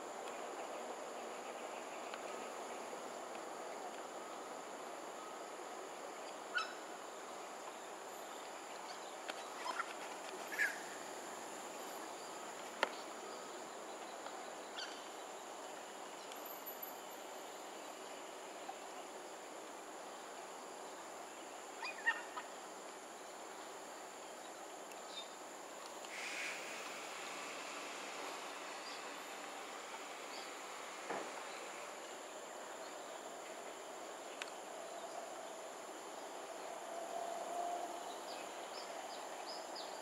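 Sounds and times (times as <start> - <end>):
steady high hiss: 0.0 - 40.0.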